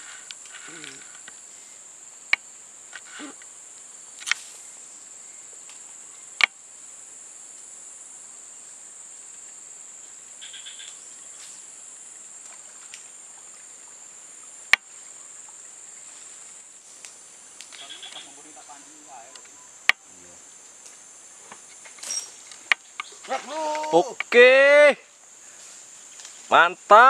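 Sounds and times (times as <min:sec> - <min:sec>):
high-pitched insect drone: 0:00.0 - 0:27.0.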